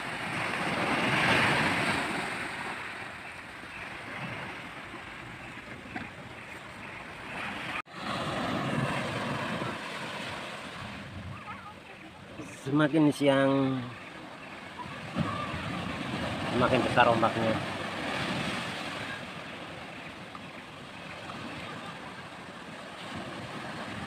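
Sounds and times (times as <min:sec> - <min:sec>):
sea waves washing on shore: 0:00.0 - 0:24.0.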